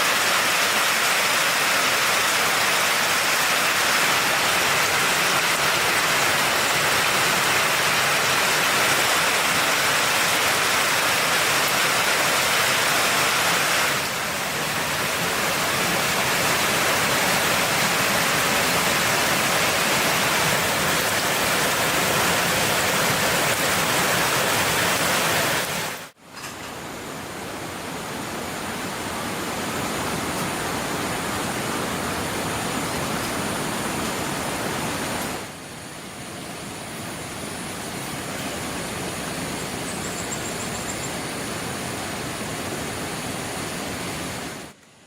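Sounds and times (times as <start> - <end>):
rushing water noise: 0.0 - 45.0.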